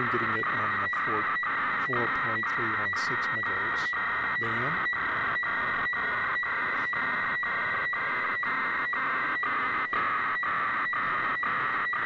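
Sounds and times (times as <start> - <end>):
radiofax signal whistle and warble: 0.0 - 12.0.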